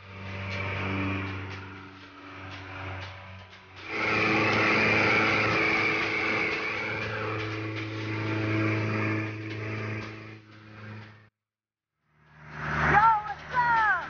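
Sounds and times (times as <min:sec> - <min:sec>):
boat engine running: 0:00.0 - 0:11.3.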